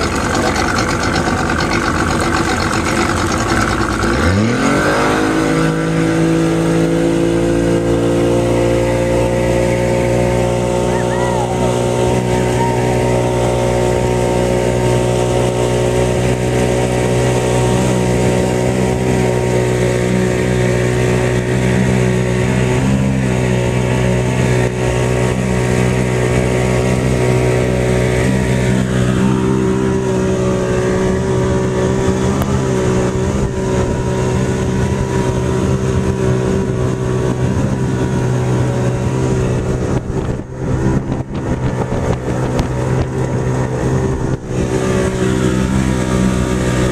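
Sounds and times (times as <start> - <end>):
jet ski engine running: 0.0 - 46.9.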